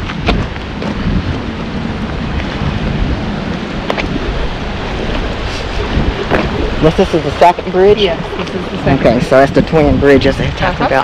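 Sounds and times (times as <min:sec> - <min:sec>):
creek water rushing: 0:00.0 - 0:11.0
wind buffeting microphone: 0:00.0 - 0:11.0.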